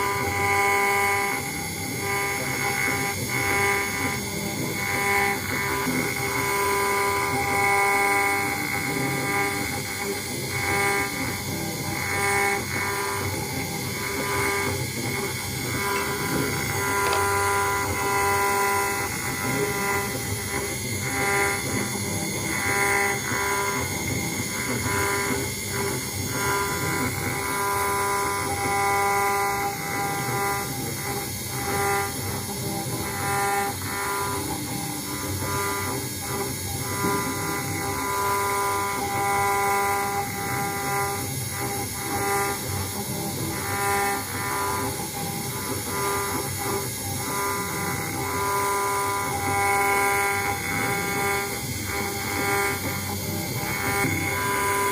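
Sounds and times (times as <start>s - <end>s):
cnc router machine whine: 0.0s - 54.9s.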